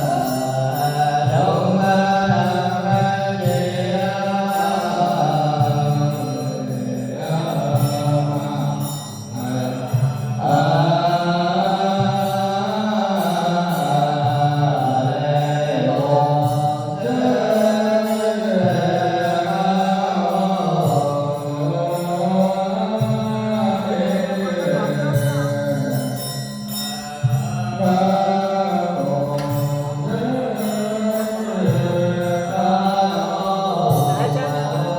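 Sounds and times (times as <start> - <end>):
melodic chanting voice: 0.0 - 34.9.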